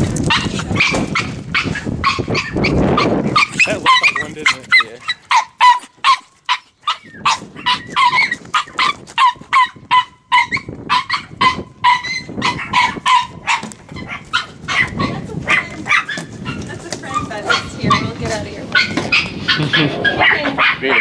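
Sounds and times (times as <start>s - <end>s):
small dog yapping: 0.3s - 18.1s, 18.7s - 21.0s.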